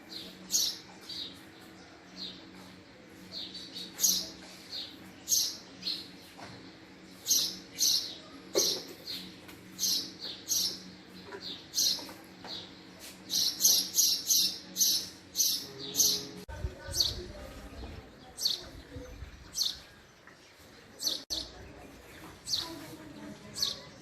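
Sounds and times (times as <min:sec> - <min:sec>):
sparrow chirping: 0:00.0 - 0:24.0.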